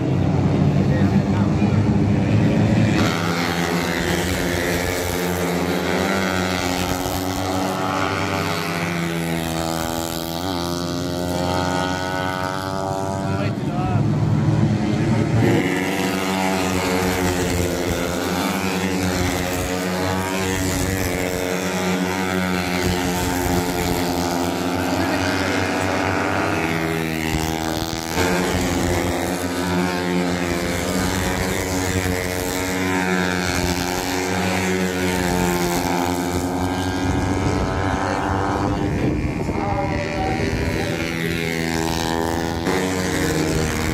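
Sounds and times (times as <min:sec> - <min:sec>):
racing motorcycle engines revving: 0:00.0 - 0:43.9.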